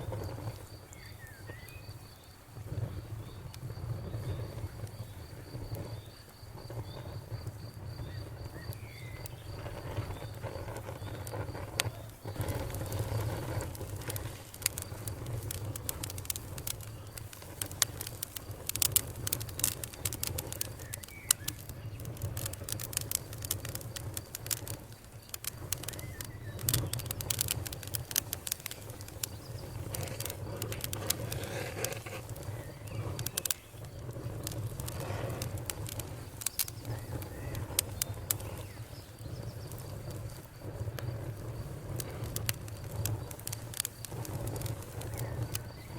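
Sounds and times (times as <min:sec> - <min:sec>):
campfire crackling and popping: 0:00.0 - 0:45.9
faint insect trill: 0:00.0 - 0:45.9.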